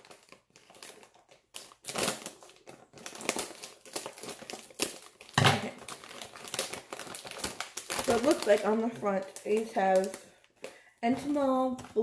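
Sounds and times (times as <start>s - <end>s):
plastic bag rustling and crackling: 0.0s - 12.0s.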